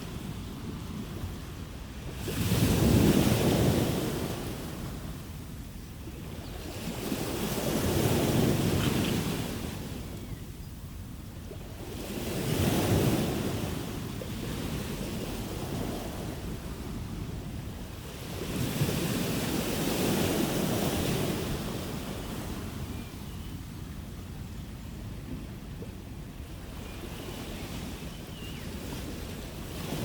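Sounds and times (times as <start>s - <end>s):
ocean waves breaking on shore: 0.0s - 10.6s, 11.3s - 24.2s, 25.2s - 30.0s.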